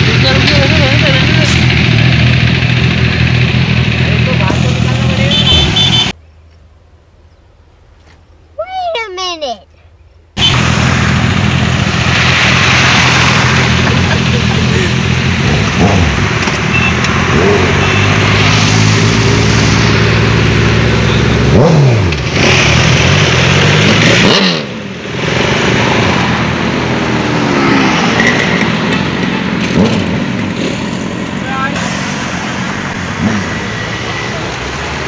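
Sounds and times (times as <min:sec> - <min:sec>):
motorcycle engines revving: 0:00.0 - 0:06.2, 0:10.4 - 0:35.0
passing road traffic: 0:00.0 - 0:35.0.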